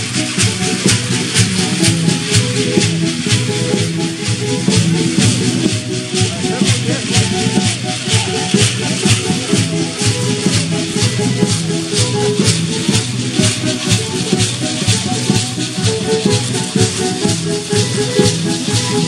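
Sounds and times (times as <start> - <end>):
gourd rattles shaken in rhythm: 0.0 - 19.0
melodic music: 0.0 - 19.0.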